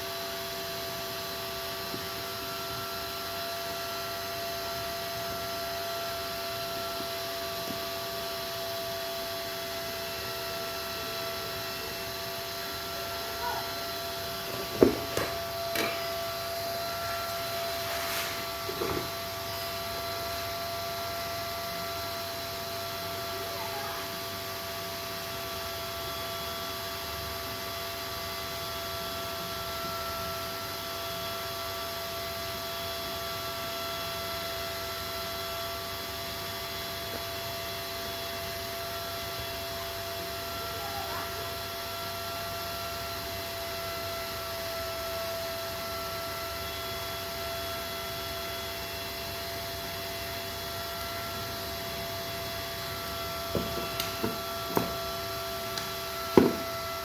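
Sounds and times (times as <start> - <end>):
electrical hum and whine: 0.0 - 57.0.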